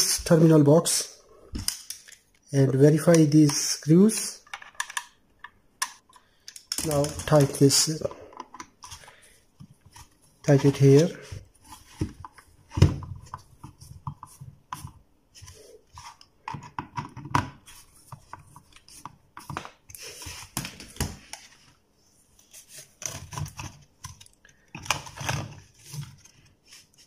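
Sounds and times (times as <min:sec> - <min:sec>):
plastic parts handled: 0:03.0 - 0:21.8, 0:22.5 - 0:27.0.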